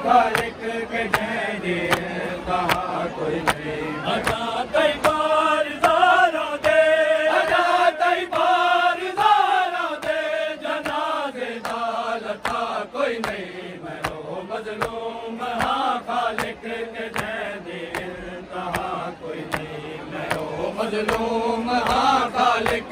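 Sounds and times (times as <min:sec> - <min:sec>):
men chanting a lament: 0:00.0 - 0:22.9.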